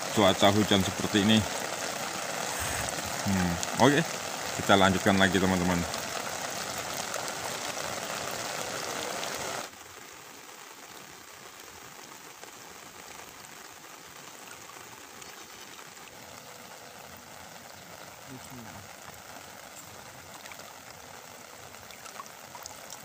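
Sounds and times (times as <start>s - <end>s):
heavy rain on water: 0.0s - 23.0s.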